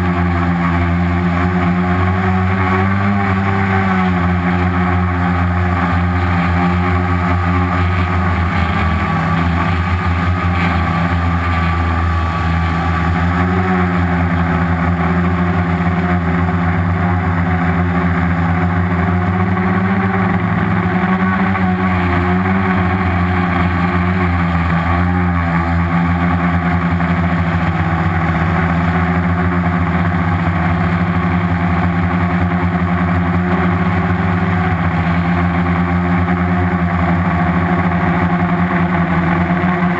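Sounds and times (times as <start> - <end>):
quadcopter propellers droning: 0.0 - 39.9.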